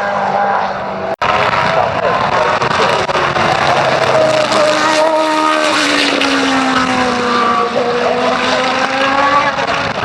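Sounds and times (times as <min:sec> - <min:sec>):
engine running under load: 0:01.2 - 0:10.0.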